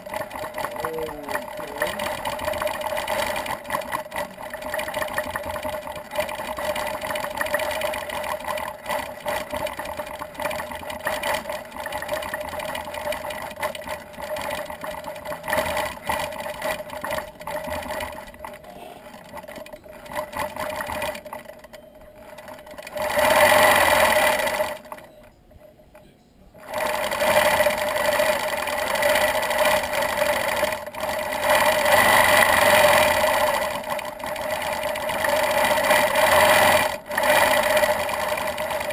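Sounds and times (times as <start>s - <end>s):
quilting machine stitching: 0.0s - 25.6s, 26.6s - 38.9s.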